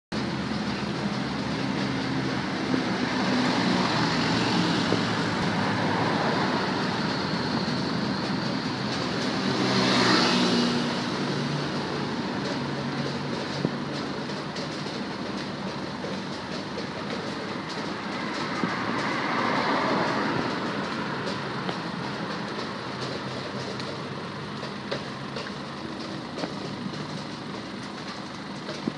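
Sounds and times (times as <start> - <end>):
vehicle humming: 0.1 - 28.9.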